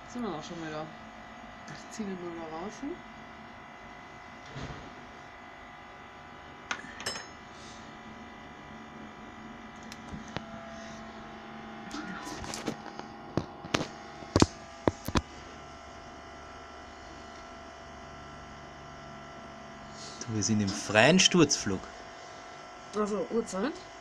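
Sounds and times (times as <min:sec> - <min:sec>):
electrical hum with faint tones: 0:00.0 - 0:24.0.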